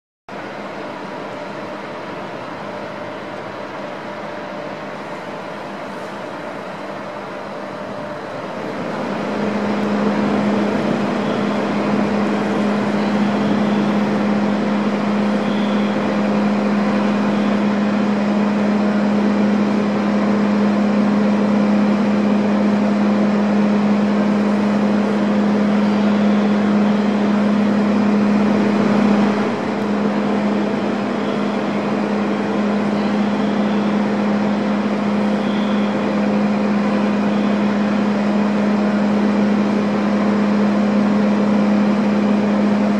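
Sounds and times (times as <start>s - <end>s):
machinery drone: 0.3s - 42.9s.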